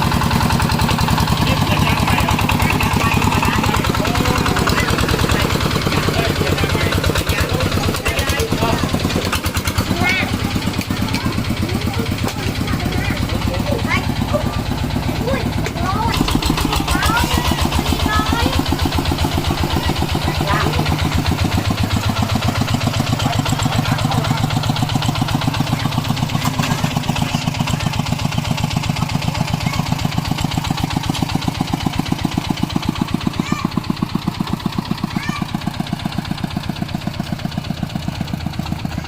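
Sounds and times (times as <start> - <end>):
tractor engine chugging: 0.0 - 39.0.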